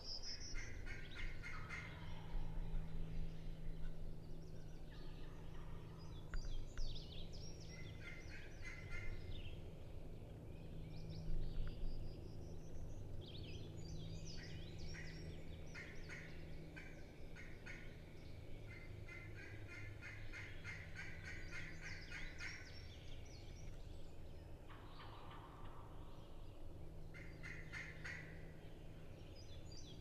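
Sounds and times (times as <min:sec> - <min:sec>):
songbird chatter: 0:00.0 - 0:30.0.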